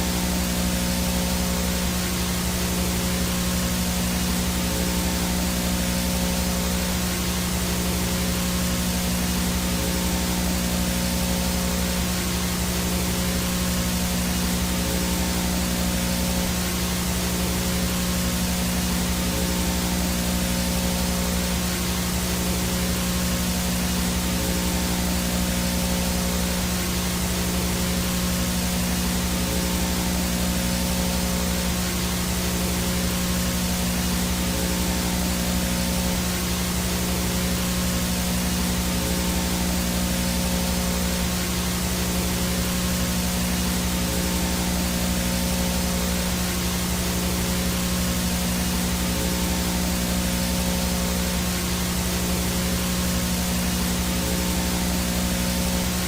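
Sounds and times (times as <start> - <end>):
low buzzing hum: 0.0 - 56.0
static hiss: 0.0 - 56.0.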